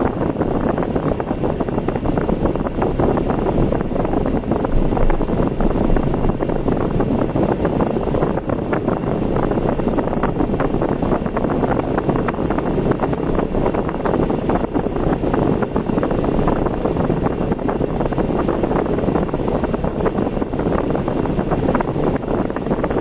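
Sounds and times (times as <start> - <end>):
car road noise: 0.0 - 23.0.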